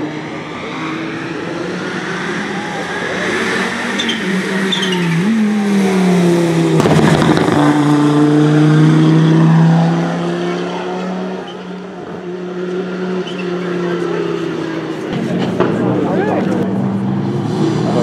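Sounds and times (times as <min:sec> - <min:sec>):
rally car engine passing: 0:00.0 - 0:18.0.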